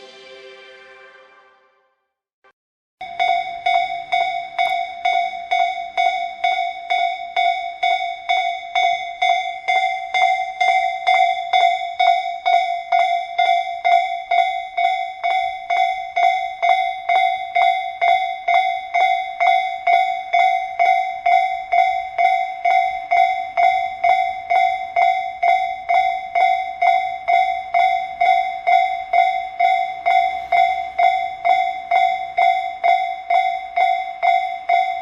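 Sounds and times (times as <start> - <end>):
level-crossing warning bell: 3.0 - 35.0.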